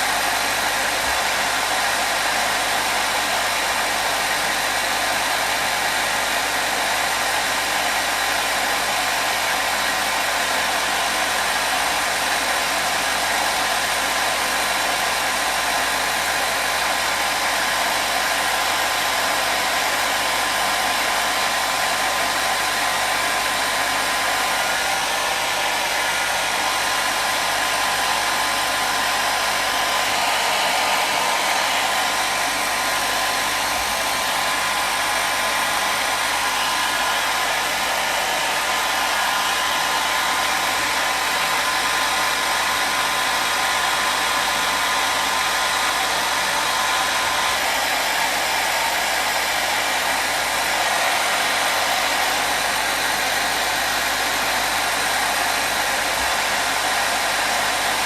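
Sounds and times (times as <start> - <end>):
hair dryer blowing: 0.0 - 58.0.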